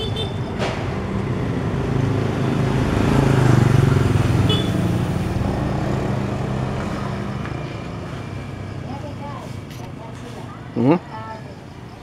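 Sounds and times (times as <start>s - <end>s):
motorcycle engine passing: 0.0s - 10.1s.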